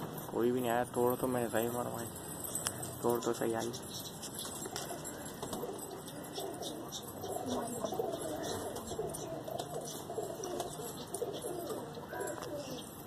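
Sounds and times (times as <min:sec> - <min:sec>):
pigeons cooing: 0:01.6 - 0:13.0.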